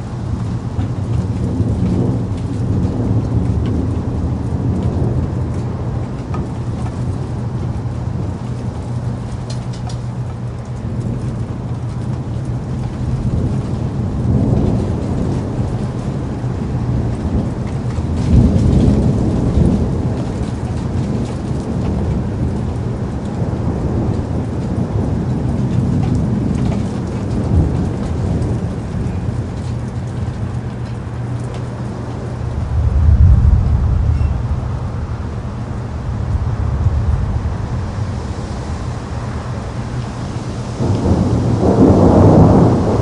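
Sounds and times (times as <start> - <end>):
low rolling thunder: 0.0 - 43.0
steady rain: 0.0 - 43.0.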